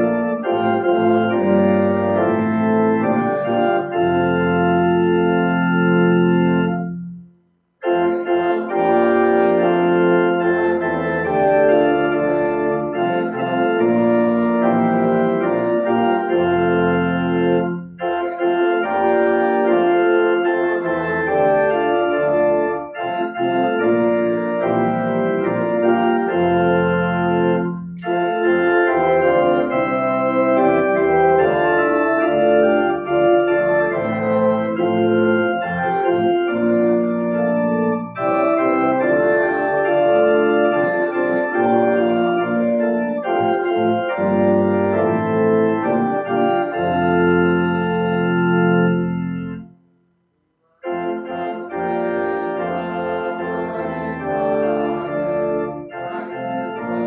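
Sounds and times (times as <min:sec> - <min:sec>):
church organ playing a hymn: 0:00.0 - 0:49.9, 0:50.8 - 0:57.0.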